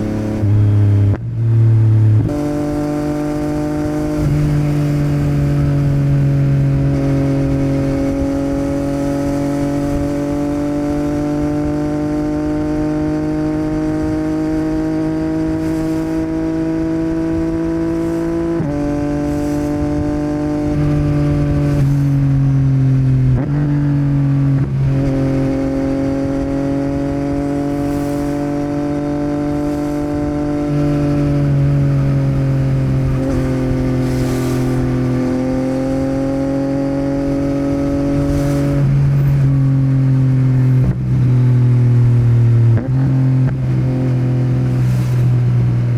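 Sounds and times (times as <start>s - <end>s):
motorcycle engine while riding: 0.0s - 45.9s.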